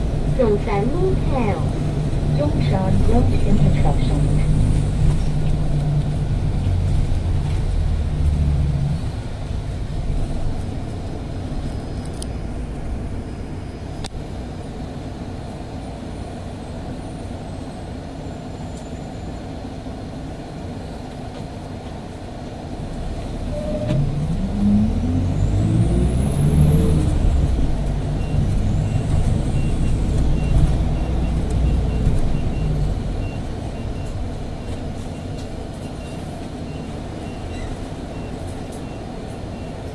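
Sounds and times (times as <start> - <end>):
bus engine rumbling and revving: 0.0 - 39.9.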